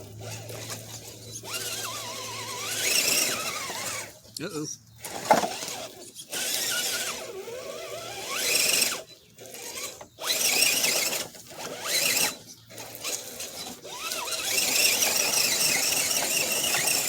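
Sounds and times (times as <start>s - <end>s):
electric motor whining: 0.0s - 4.2s, 5.0s - 17.0s.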